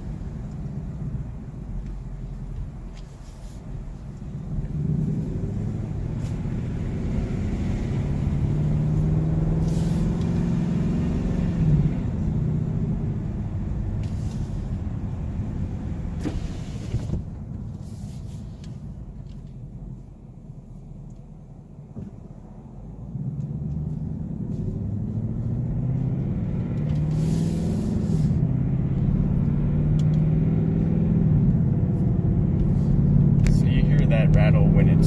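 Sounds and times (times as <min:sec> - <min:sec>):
car engine accelerating: 0:00.0 - 0:20.5, 0:22.0 - 0:35.0
road and wind noise: 0:00.0 - 0:35.0.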